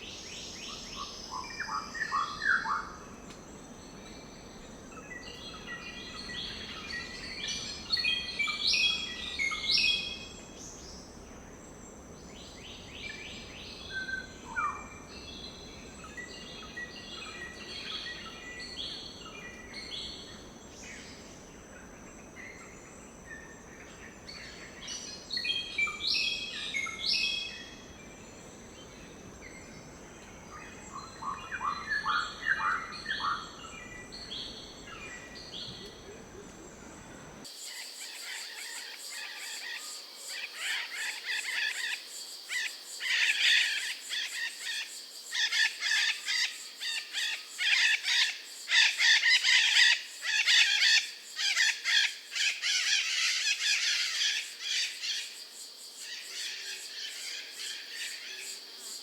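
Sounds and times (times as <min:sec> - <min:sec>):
high insect drone: 0:00.0 - 0:59.0
soft background hiss: 0:00.0 - 0:59.0.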